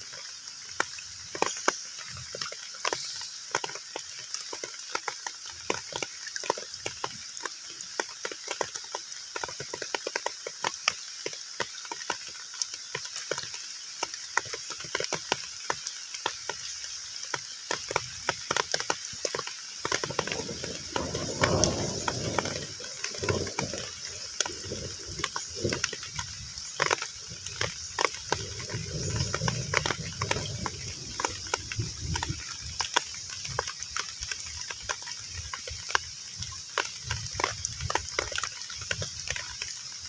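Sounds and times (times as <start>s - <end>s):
heavy rain on a pond: 0.0s - 40.0s.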